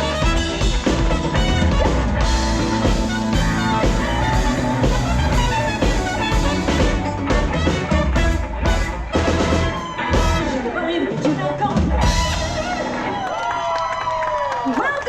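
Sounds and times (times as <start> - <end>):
live band playing latin pop: 0.0 - 14.1.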